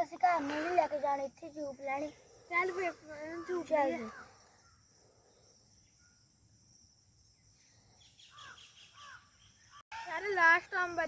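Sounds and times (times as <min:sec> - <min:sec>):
high insect hum: 0:00.0 - 0:11.0.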